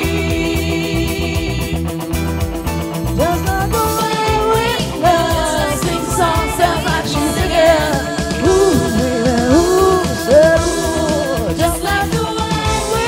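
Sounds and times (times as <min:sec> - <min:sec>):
bass guitar: 0:00.0 - 0:13.0
drums: 0:00.0 - 0:13.0.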